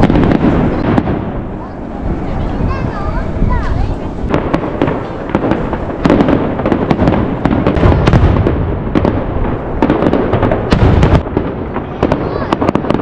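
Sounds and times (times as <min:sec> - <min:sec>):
fireworks crackling bangs: 0:00.0 - 0:13.0
low rumble of shell bursts: 0:00.0 - 0:13.0.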